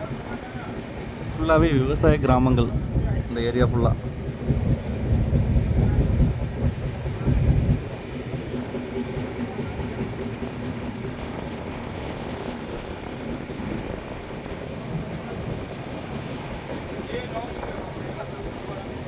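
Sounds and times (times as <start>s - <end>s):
train rumble and rattle: 0.0s - 19.0s.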